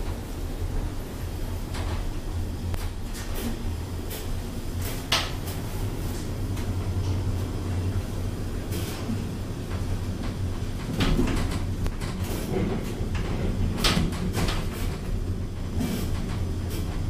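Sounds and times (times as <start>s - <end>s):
elevator drive hum: 0.0s - 17.0s.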